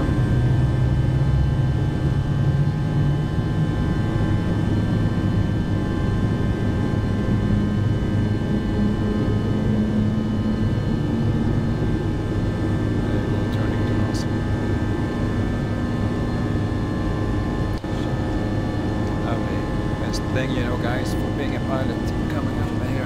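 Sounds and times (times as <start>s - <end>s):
jet engines droning: 0.0s - 23.0s
thin steady whines: 0.0s - 23.0s.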